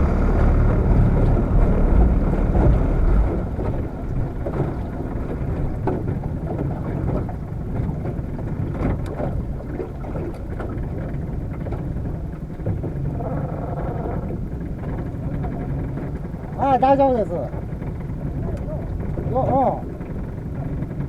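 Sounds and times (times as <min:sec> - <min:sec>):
boat engine rumble: 0:00.0 - 0:21.0.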